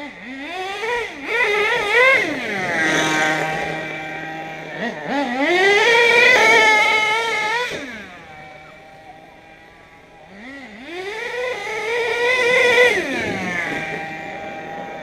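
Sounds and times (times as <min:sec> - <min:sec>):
rc truck engine revving: 0:00.0 - 0:15.0.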